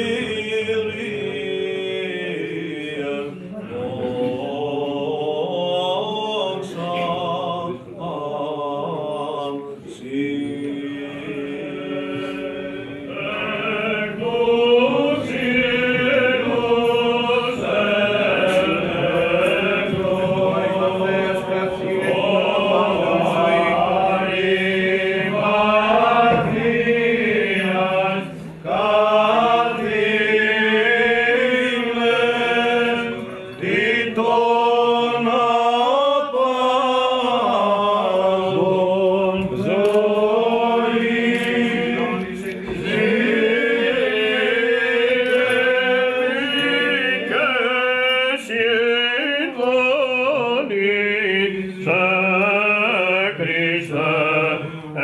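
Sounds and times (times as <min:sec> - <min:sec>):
men chanting: 0:00.0 - 0:55.0.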